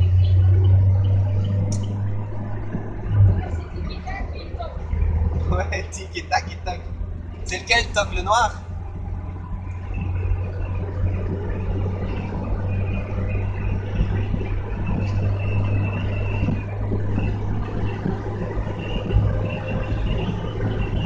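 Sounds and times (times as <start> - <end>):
car engine hum: 0.0 - 21.0
road rush: 0.0 - 21.0.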